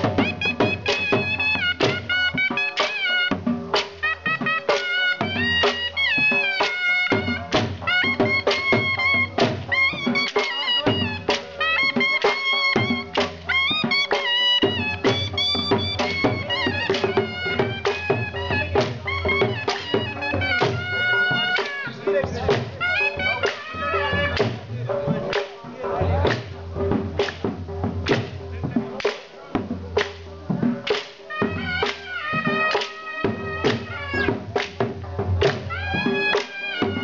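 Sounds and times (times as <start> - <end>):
reed pipe folk melody: 0.0 - 27.9, 30.2 - 37.0
dhol drumming: 0.0 - 37.0.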